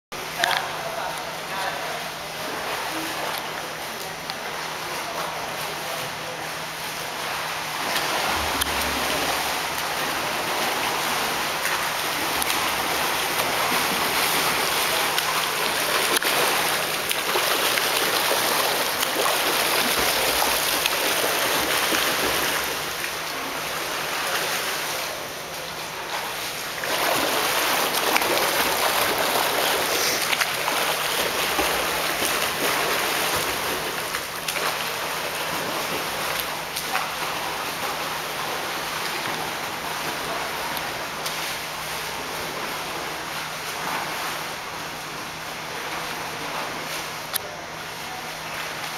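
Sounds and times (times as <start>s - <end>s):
water splashing from swimming: 0.2s - 48.9s.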